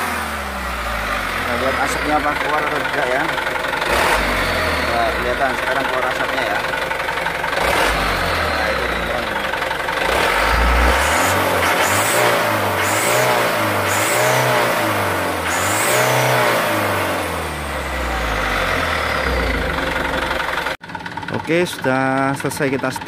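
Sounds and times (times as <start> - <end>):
diesel truck engine revving: 0.0 - 20.8.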